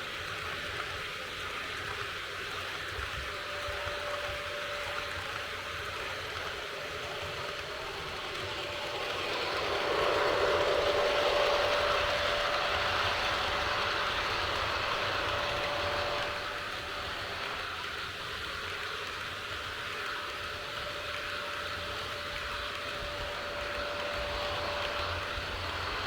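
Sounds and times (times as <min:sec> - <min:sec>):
model train whine: 0:00.0 - 0:26.0
wheels rolling on rails: 0:03.1 - 0:26.0.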